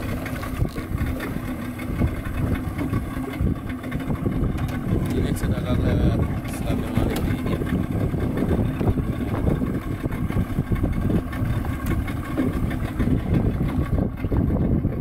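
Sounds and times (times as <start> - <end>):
outboard motor idling: 0.0 - 15.0
wind rumbling on microphone: 0.0 - 15.0.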